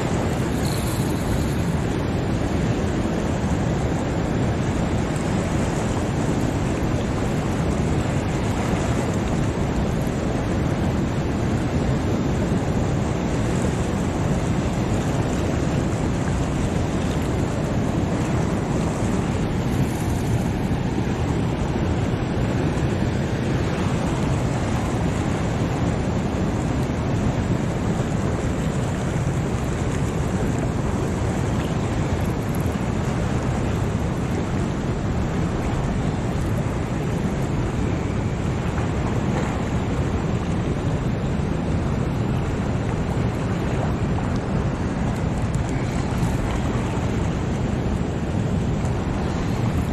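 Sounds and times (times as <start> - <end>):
spillway water rushing: 0.0 - 49.9.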